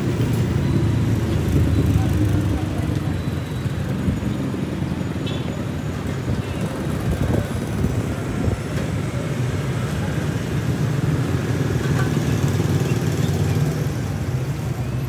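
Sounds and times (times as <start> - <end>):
passing vehicle engines rumbling: 0.0 - 15.0.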